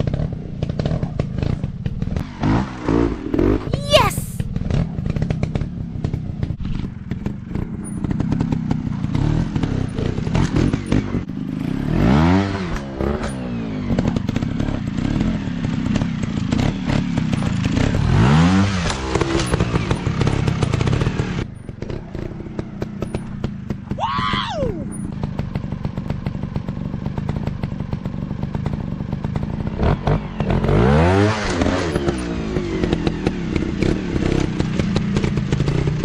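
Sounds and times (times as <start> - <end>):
motorcycle engines revving: 0.0 - 3.7, 4.6 - 36.0.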